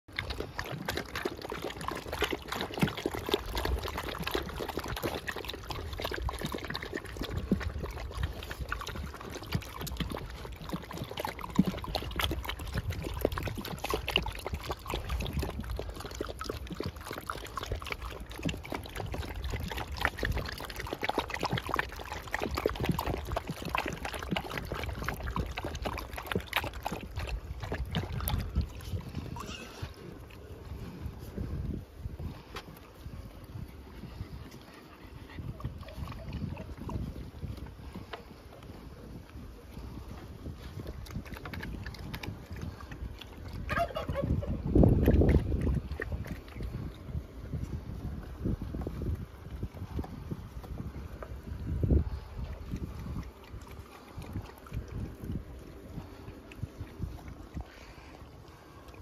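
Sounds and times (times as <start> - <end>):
puppies lapping water: 0.0 - 59.0.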